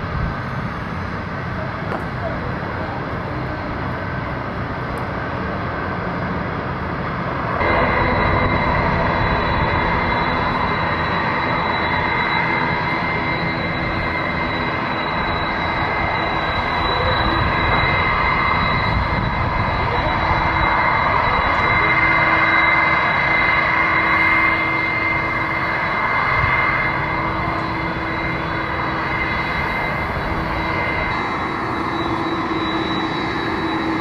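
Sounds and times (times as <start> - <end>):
jet engine rumble: 0.0 - 34.0
jet engine whine: 0.0 - 34.0.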